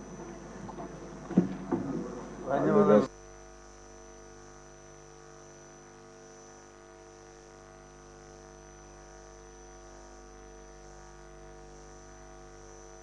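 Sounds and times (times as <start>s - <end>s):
electrical hum with high whine: 0.0s - 13.0s.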